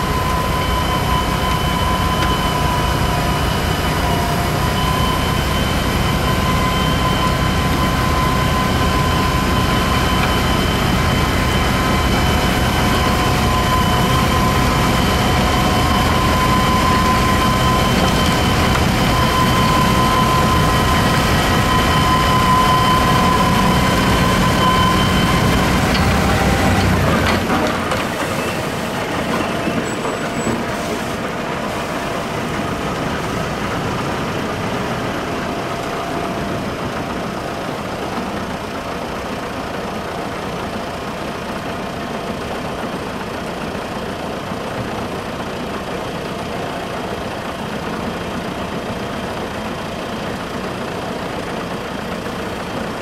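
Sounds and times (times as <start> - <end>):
snow blower whine: 0.0 - 53.0
tractor engine rumble: 0.0 - 53.0.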